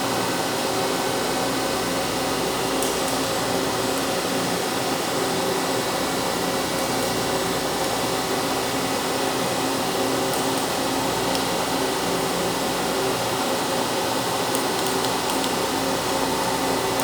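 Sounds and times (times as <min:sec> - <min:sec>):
machine whirring: 0:00.1 - 0:17.0.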